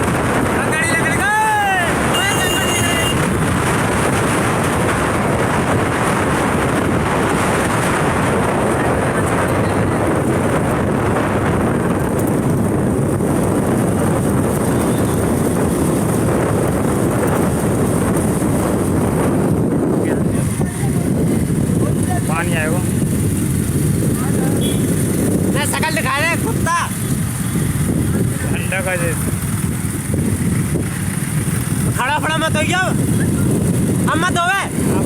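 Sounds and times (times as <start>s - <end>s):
road noise: 0.0s - 35.0s
wind rushing over microphone: 0.0s - 35.0s
motorcycle engine running: 1.7s - 35.0s.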